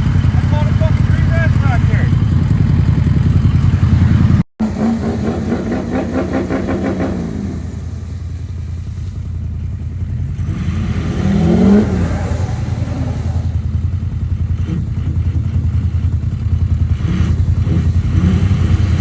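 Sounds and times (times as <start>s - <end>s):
engine throbbing and revving: 0.0s - 19.0s.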